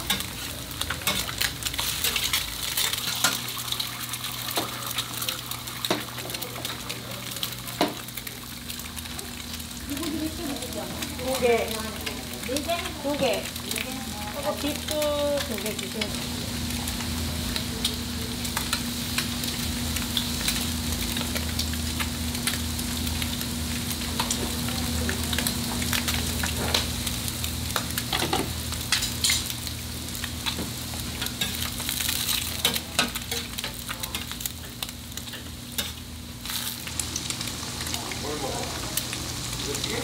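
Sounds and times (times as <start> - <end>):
food sizzling and crackling: 0.0 - 40.0.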